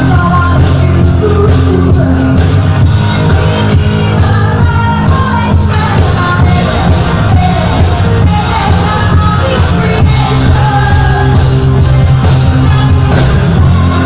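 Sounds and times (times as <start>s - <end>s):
band with heavy bass and dance beat: 0.0s - 14.0s
person singing: 0.0s - 14.0s.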